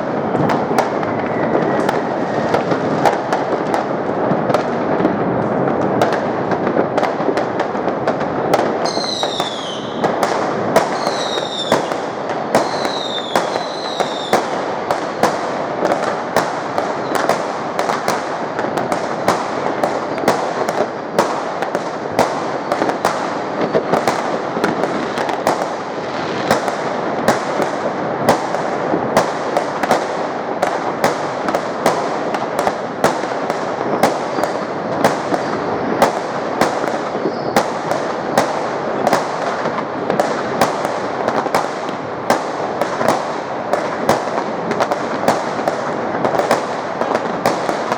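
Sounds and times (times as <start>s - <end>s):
firecrackers crackling: 0.0s - 47.9s
fireworks banging: 0.0s - 47.9s
whistling fireworks: 0.0s - 47.9s.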